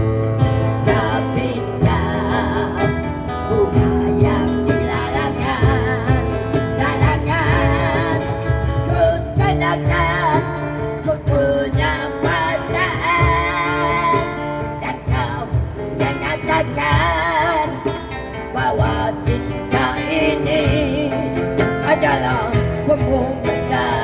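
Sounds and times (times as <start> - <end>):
person singing with vibrato: 0.0 - 24.0
strummed acoustic guitar: 0.0 - 24.0.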